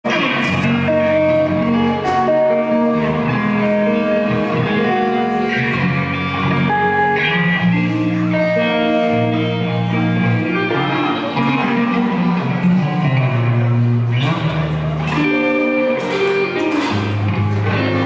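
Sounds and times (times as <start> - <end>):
electric guitar riffs: 0.0 - 18.0.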